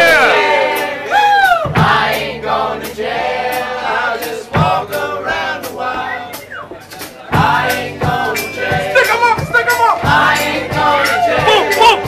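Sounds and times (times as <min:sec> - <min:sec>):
crowd singing along: 0:00.0 - 0:12.0.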